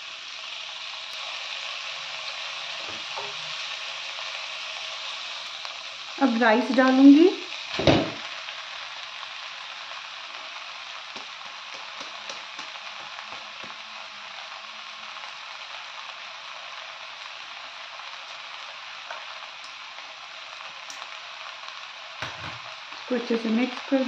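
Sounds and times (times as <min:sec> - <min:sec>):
food sizzling in hot pan: 0:00.0 - 0:24.0.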